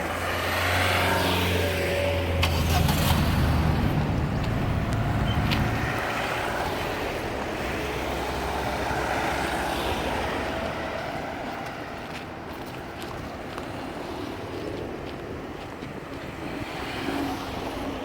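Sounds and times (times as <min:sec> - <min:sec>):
vehicle passing: 0:00.0 - 0:14.4
street noise: 0:00.0 - 0:18.0.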